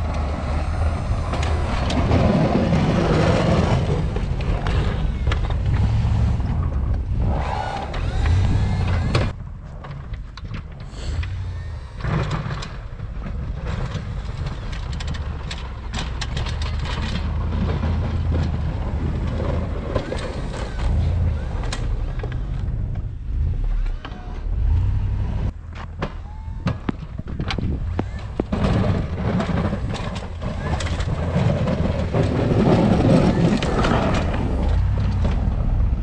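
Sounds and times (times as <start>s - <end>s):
plow pushing snow: 0.0s - 25.9s, 26.5s - 36.0s
truck engine rumbling: 0.0s - 36.0s.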